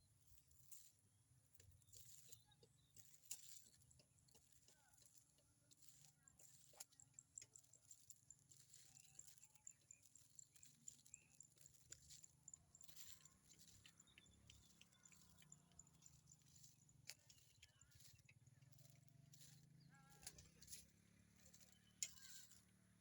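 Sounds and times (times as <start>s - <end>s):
small ticks: 0.3s - 23.0s.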